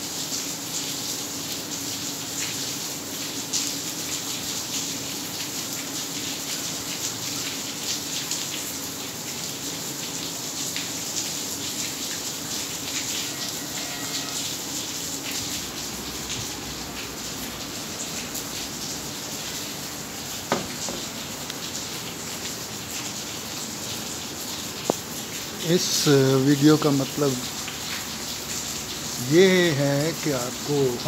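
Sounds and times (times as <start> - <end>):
heavy rain into standing water: 0.0 - 31.0
raindrop splashes: 0.2 - 31.0.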